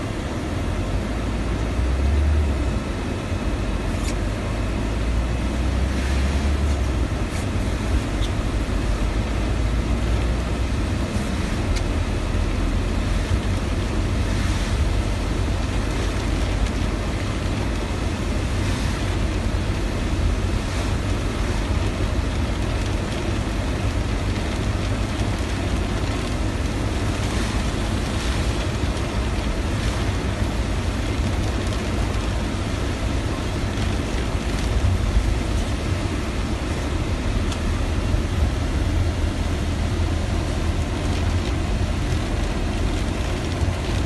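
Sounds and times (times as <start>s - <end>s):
engine and road rumble: 0.0s - 44.0s
rain on windscreen: 0.0s - 44.0s
tyres hissing on wet road: 0.0s - 44.0s.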